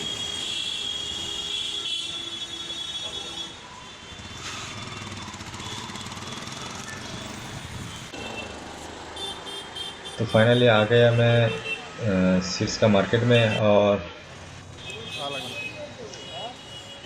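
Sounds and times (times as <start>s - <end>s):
street traffic hum: 0.0s - 17.0s.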